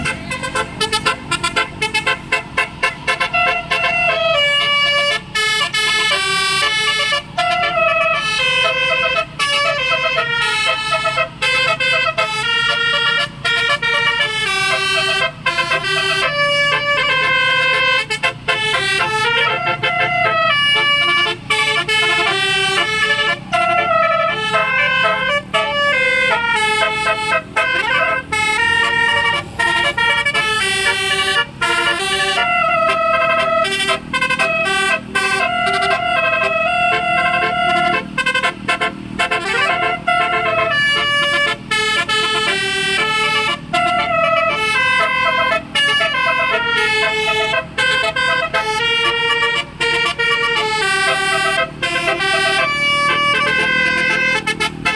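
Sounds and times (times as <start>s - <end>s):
multi-tone horn playing melody: 0.0s - 54.9s.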